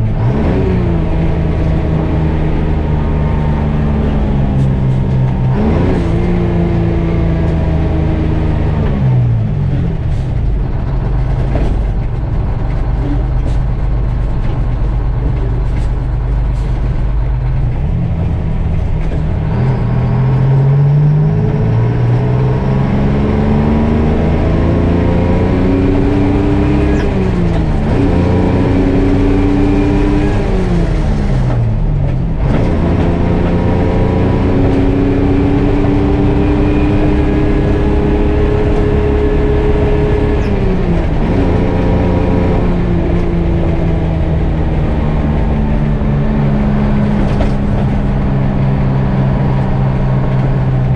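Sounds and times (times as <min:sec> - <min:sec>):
diesel truck engine shifting gears: 0:00.0 - 0:50.9.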